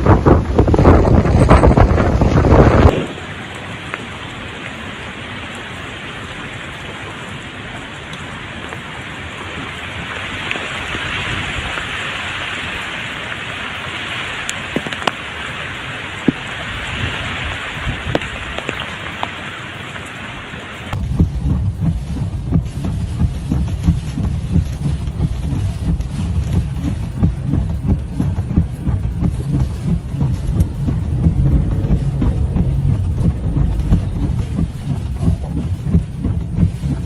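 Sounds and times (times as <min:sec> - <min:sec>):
heavy rain falling: 0:00.0 - 0:37.0
raindrops ticking close by: 0:00.0 - 0:37.0.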